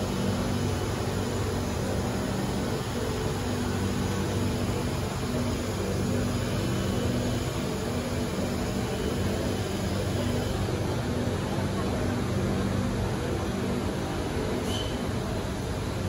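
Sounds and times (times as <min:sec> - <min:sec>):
metro train hum and hiss: 0:00.0 - 0:16.0.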